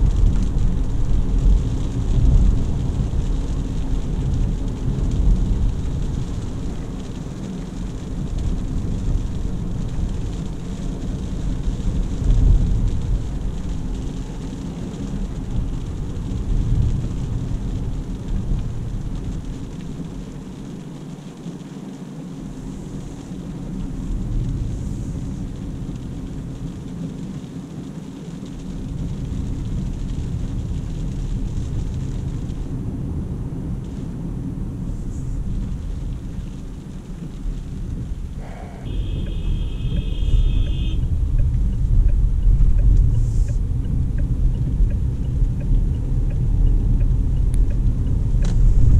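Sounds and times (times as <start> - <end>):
car cabin engine and tyre rumble: 0.0 - 48.9.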